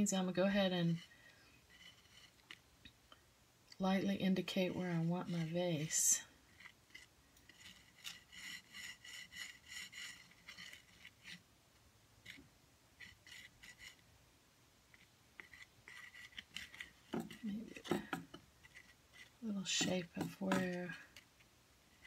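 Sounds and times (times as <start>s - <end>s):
drumstick scraping wet paint: 0.6s - 2.6s, 3.9s - 11.4s, 13.0s - 14.0s, 14.9s - 22.0s.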